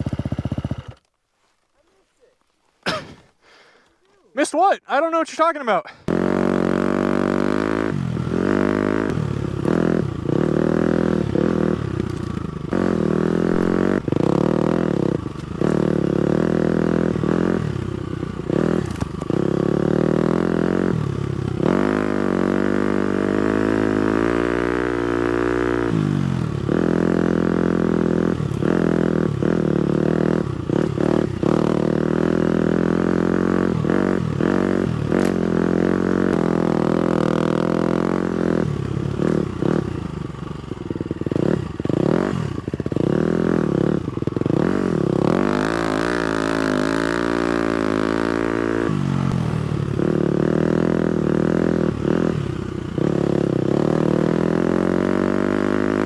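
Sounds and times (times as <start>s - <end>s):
dirt bike engine revving: 0.0s - 1.0s, 6.0s - 56.0s.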